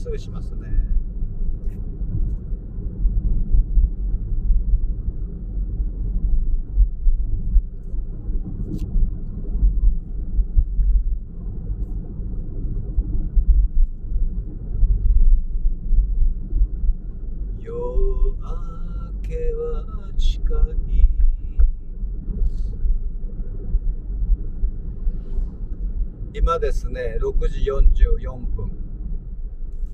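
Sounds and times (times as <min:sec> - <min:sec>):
car engine and tyre rumble: 0:00.0 - 0:29.9.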